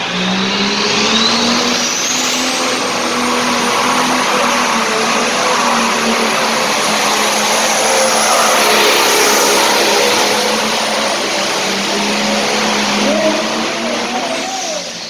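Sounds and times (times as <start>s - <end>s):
diesel engine roaring under load: 0.0s - 15.0s
turbo whine: 0.0s - 15.0s.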